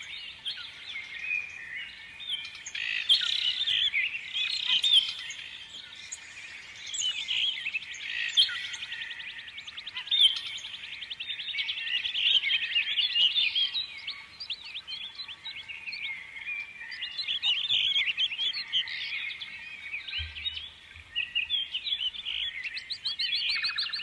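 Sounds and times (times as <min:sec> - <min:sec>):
songbirds chirping and twittering: 0:00.0 - 0:24.0.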